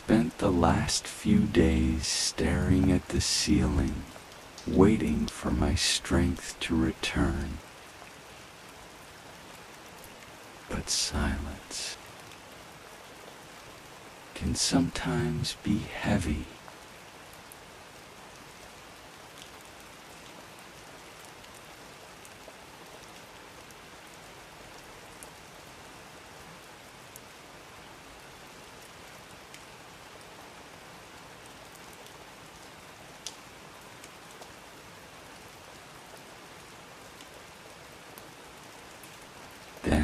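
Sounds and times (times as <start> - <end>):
raindrops ticking nearby: 0.0 - 40.0
steady rain: 0.0 - 40.0.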